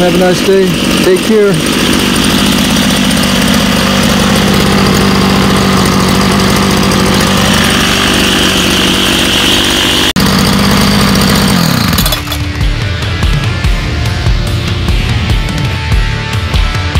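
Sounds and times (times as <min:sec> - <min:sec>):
string trimmer engine idling: 0:00.0 - 0:15.7.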